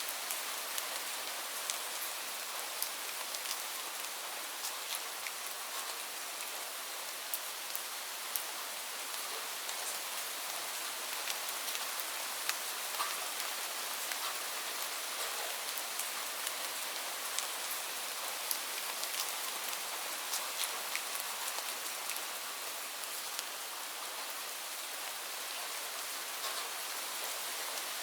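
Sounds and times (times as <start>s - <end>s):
raindrops ticking on a surface: 0.1s - 23.6s, 26.3s - 28.0s.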